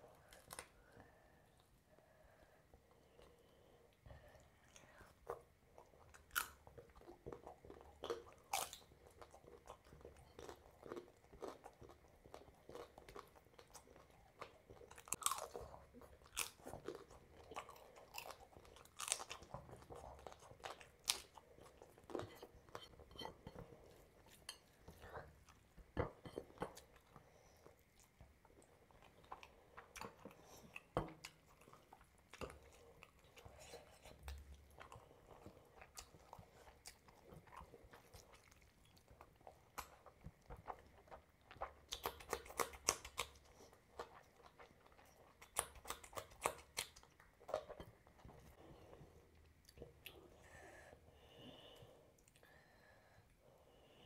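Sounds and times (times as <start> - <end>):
person chewing and crunching food: 4.2 - 50.5.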